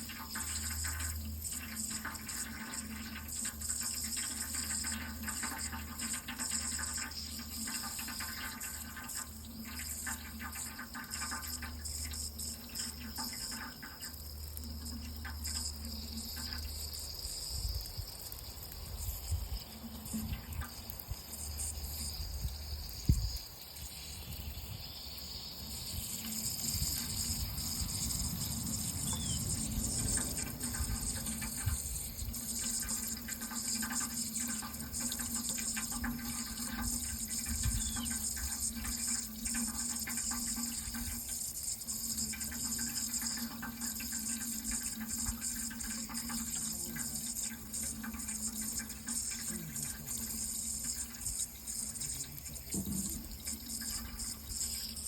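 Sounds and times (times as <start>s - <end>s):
water running: 0.0s - 55.0s.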